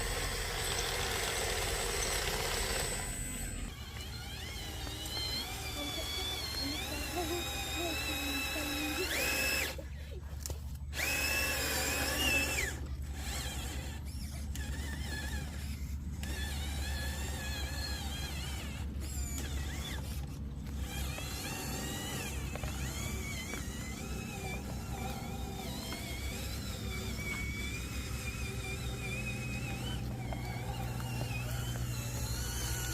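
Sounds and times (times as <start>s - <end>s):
electric motors whining: 0.0s - 32.9s
steady low hum: 0.0s - 32.9s.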